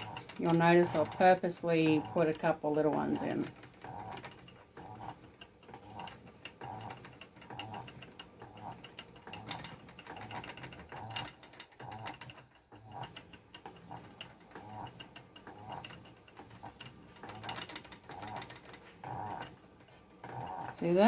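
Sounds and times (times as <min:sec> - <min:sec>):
spinning wheel clicking and knocking: 0:00.0 - 0:21.0.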